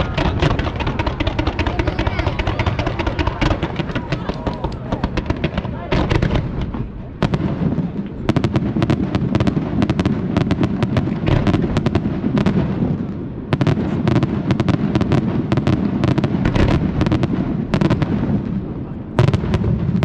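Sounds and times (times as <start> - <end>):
booming shells rumble: 0.0 - 20.0
fireworks cracking and banging: 0.0 - 20.0.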